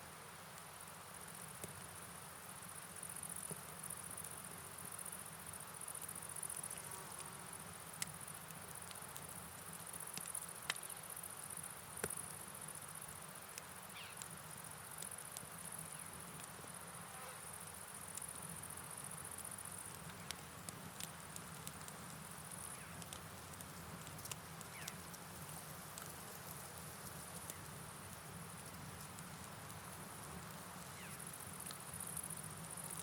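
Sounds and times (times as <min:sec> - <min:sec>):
campfire crackles: 0:00.0 - 0:33.0
rain hiss: 0:00.0 - 0:33.0
insects chirring: 0:02.6 - 0:23.4, 0:24.0 - 0:33.0.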